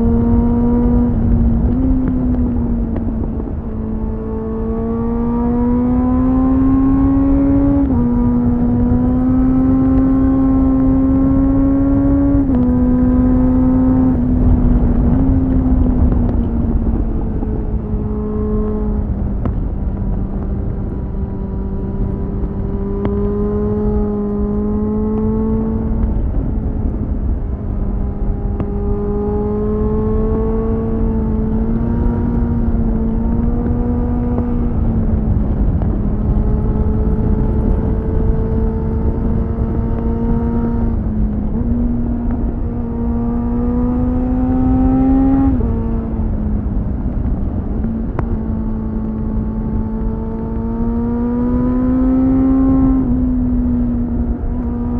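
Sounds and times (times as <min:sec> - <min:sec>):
motorcycle engine revving: 0:00.0 - 0:54.9
wind rumble on microphone: 0:00.0 - 0:54.9.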